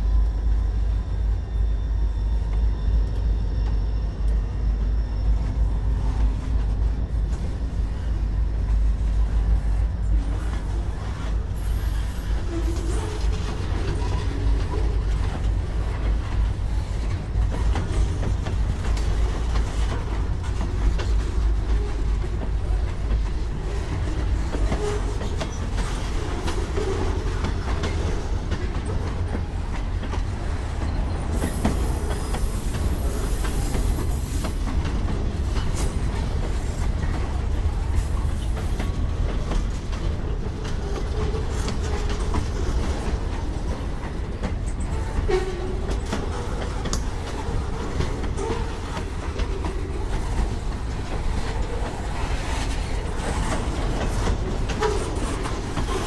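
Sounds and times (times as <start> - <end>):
freight train rumbling past: 0.0 - 56.0
wheels clicking over rail joints: 10.4 - 56.0.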